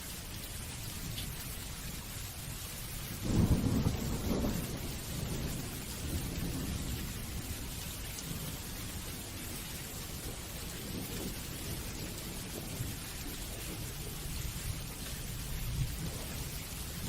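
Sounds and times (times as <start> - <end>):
steady rain: 0.0 - 17.0
thunder rumbling: 3.2 - 17.0.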